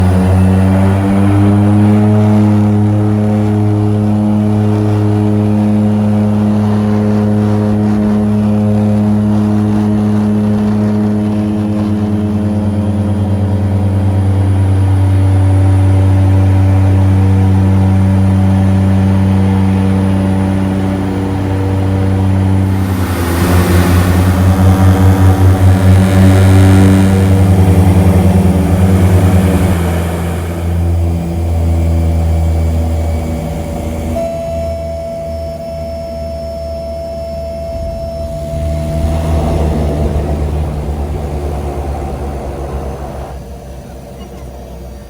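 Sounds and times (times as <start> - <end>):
boat engine droning: 0.0 - 45.0.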